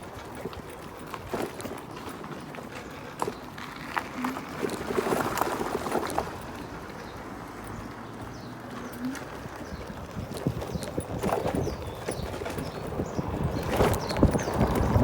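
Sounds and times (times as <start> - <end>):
electric scooter knocking and rattling: 0.0 - 15.0.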